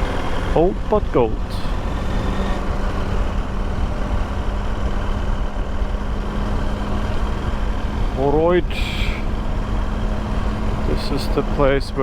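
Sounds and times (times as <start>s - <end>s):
low wind rumble: 0.0s - 12.0s
motorcycle engine running: 0.0s - 12.0s.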